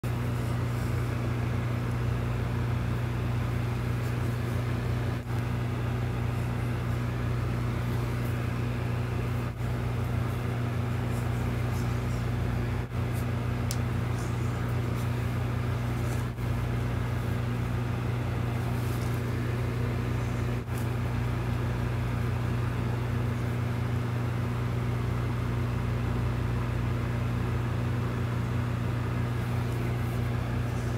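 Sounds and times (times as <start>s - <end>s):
low hum: 0.0s - 27.2s.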